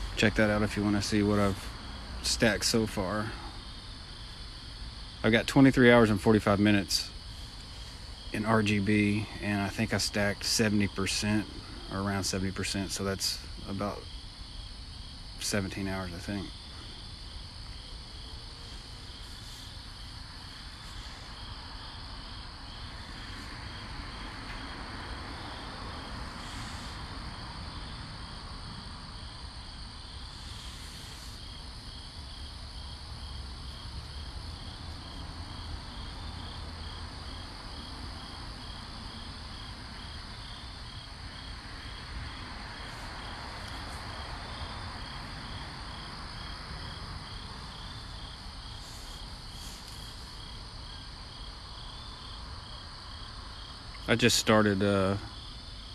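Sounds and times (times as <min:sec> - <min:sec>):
crickets chirping: 0:00.0 - 0:55.9
soft rushing hiss: 0:00.0 - 0:55.9.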